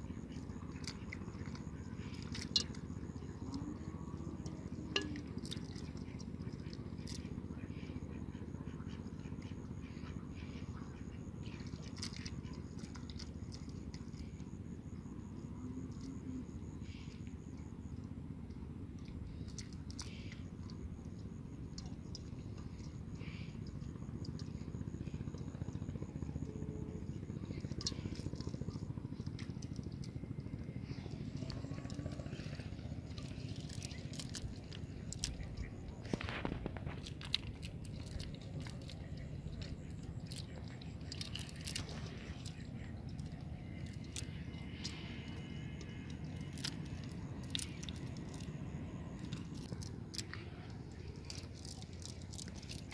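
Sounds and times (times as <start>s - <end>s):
wet net squelching on mud: 0.0s - 17.5s, 18.4s - 52.9s
low rumble: 9.9s - 52.9s.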